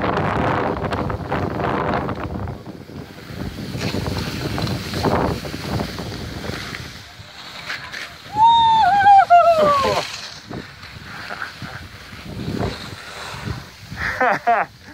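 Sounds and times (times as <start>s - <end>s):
wind buffeting microphone: 0.0s - 7.4s, 8.2s - 14.9s
skis sliding over snow: 0.0s - 14.9s.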